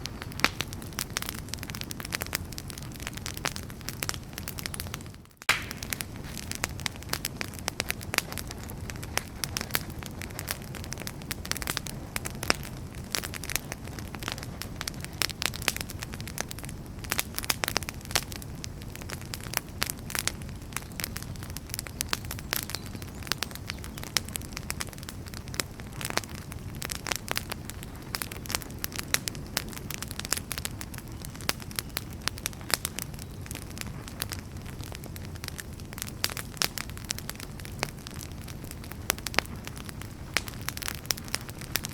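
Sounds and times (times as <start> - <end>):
firewood crackling and popping: 0.0 - 41.9
wood fire burning: 0.0 - 41.9.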